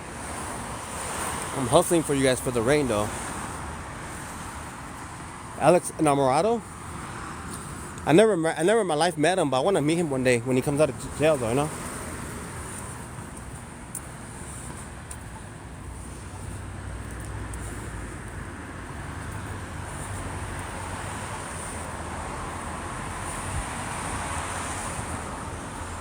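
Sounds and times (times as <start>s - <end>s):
passing vehicles rumble: 0.0s - 26.0s
road hiss: 0.0s - 26.0s.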